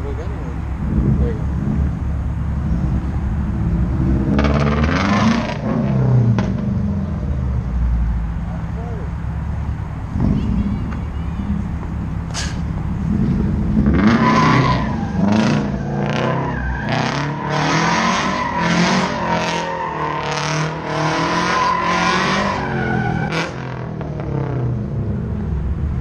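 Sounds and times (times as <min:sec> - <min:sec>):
tires squealing: 0:00.0 - 0:24.8
car engine revving: 0:00.0 - 0:26.0.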